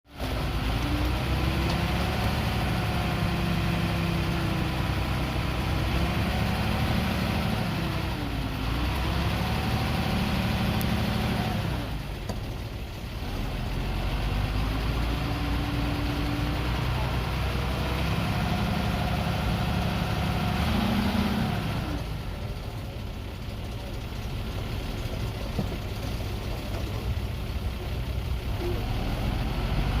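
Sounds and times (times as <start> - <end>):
diesel truck engine under load: 0.1 - 30.0.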